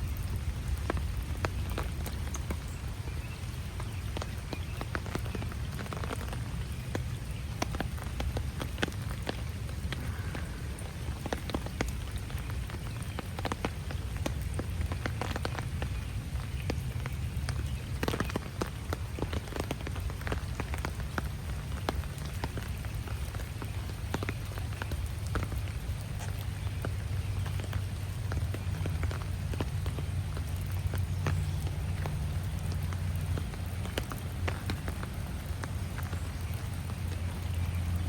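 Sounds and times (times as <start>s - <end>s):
low rumble of rain: 0.0s - 38.0s
raindrops ticking on surfaces: 0.0s - 38.0s.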